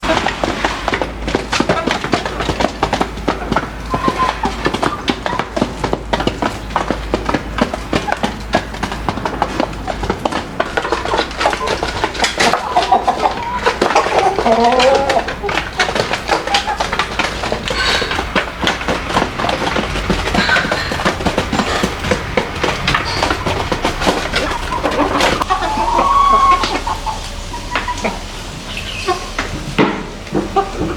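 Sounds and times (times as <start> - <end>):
chicken calls: 0.0 - 30.9
chickens pecking clicks and knocks: 0.0 - 30.9.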